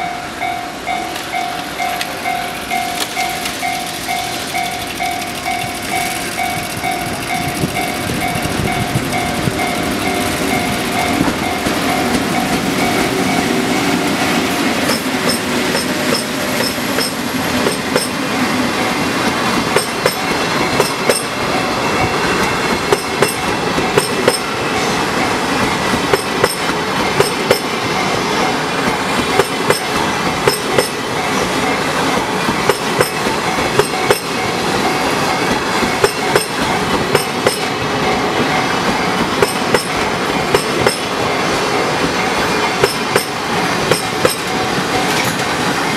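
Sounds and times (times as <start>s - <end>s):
steady train rumble: 0.0s - 45.9s
train wheels clattering over rail joints: 1.2s - 45.9s.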